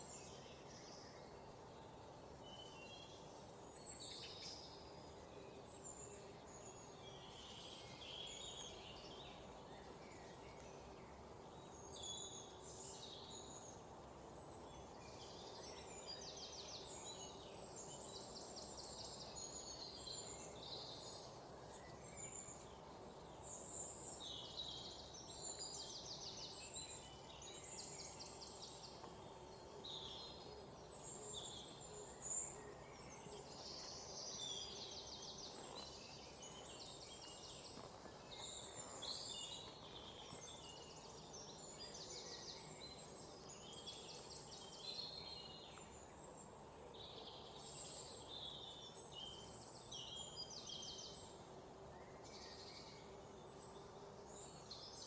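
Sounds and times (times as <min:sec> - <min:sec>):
faint steady hiss: 0:00.0 - 0:55.0
songbirds chirping and trilling: 0:00.0 - 0:55.0.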